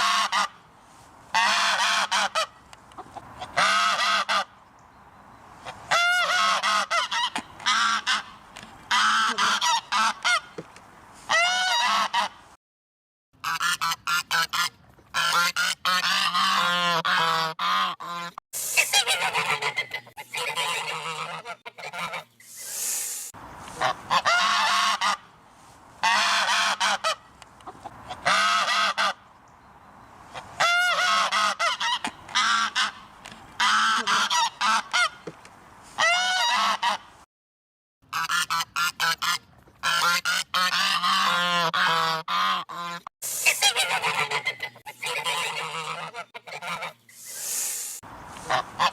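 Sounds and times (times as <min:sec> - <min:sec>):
geese honking: 0:00.0 - 0:00.6, 0:01.3 - 0:04.5, 0:05.6 - 0:10.6, 0:11.3 - 0:12.4, 0:13.4 - 0:22.4, 0:23.7 - 0:25.3, 0:26.0 - 0:29.2, 0:30.3 - 0:35.2, 0:36.0 - 0:37.1, 0:38.1 - 0:47.5, 0:48.4 - 0:48.9.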